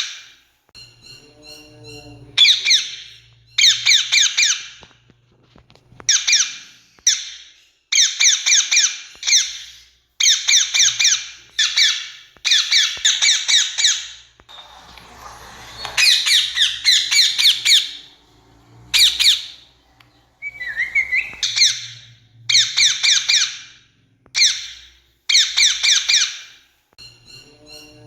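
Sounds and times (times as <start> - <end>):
parakeet squawking: 1.3 - 4.9, 6.1 - 18.3, 18.9 - 26.6.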